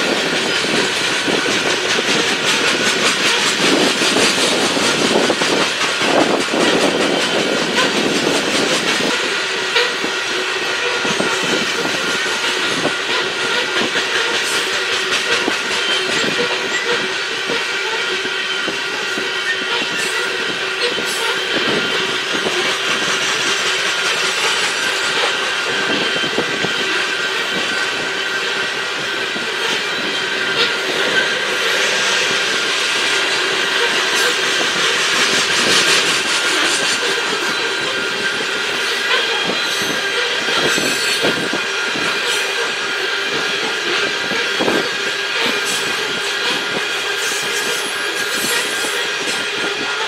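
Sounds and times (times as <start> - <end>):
high wheel squeal: 0.0 - 50.0
train wheels clacking on rail joints: 0.0 - 50.0.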